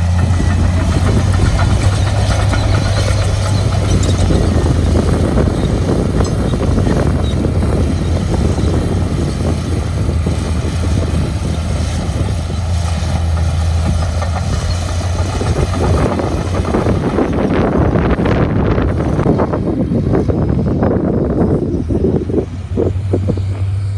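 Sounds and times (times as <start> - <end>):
heavy diesel engine humming: 0.0 - 23.9.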